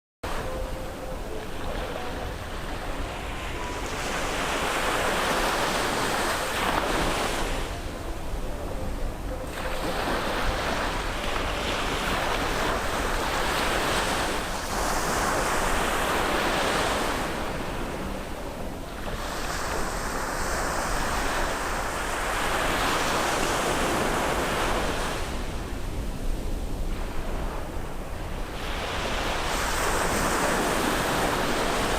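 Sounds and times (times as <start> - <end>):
wind rumbling on microphone: 0.2 - 31.9
surf breaking on a beach: 0.3 - 31.9.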